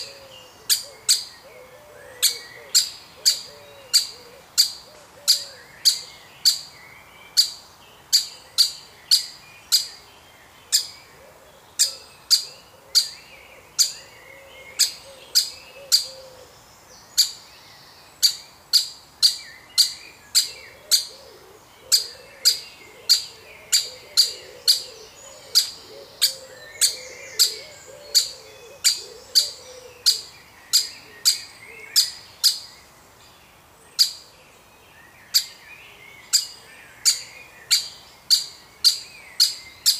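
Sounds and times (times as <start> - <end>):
woodpeckers calling: 0.0 - 10.0, 11.7 - 16.5, 18.2 - 32.7, 36.2 - 39.9.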